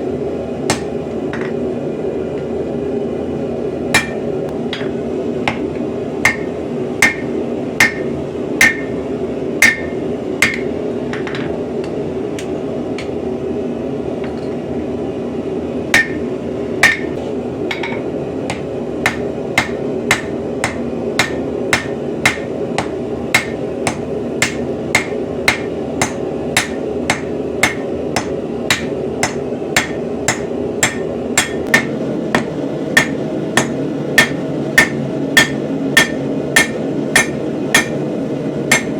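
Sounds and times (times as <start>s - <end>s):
hammer striking steel on anvil: 0.7s - 1.6s, 4.0s - 9.0s, 9.6s - 13.2s, 16.0s - 38.0s, 38.7s - 38.9s.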